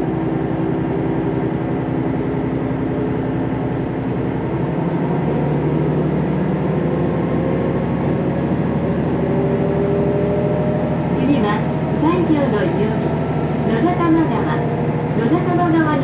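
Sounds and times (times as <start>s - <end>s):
diesel railcar engine drone: 0.0s - 16.0s
rail running noise: 0.0s - 16.0s.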